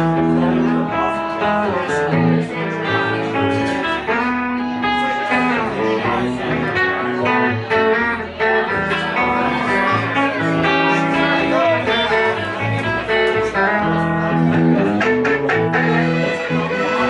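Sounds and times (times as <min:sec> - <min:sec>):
electric guitar picking: 0:00.0 - 0:17.0
upright bass: 0:00.0 - 0:17.0.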